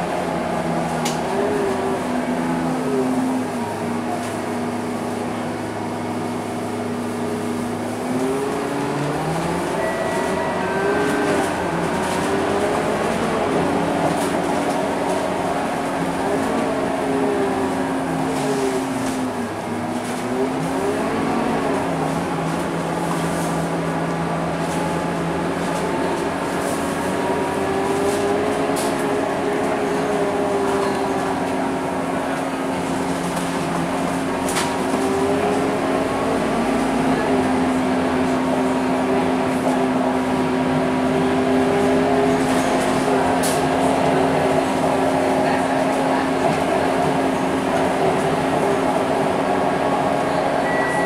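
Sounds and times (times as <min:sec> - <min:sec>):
bus engine hum: 0:00.0 - 0:51.0.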